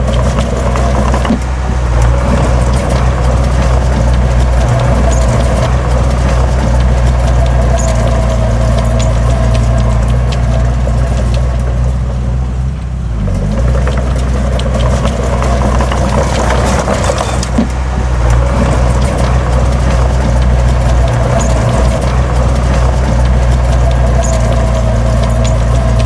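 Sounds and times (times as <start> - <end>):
diesel earthmoving machine running: 0.0 - 26.0
metallic clanking and rattling: 0.0 - 26.0.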